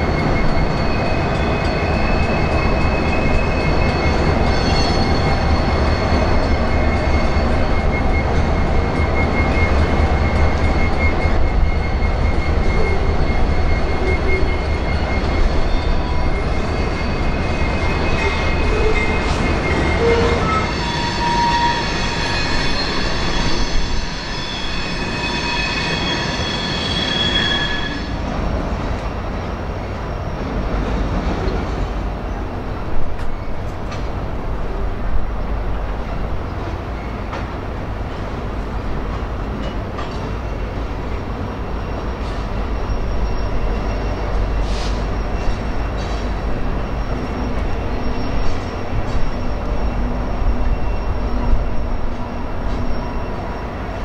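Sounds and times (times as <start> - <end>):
high steel wheel squeal: 0.0 - 28.3, 29.4 - 34.0, 35.4 - 54.0
train wheels rumbling on bridge: 0.0 - 54.0.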